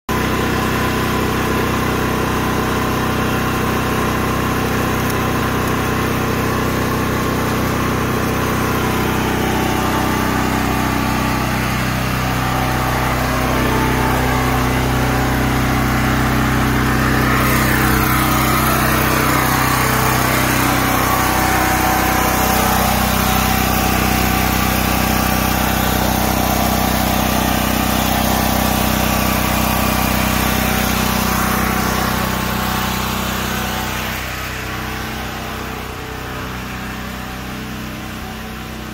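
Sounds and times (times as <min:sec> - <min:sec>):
generator engine running: 0:00.1 - 0:38.9.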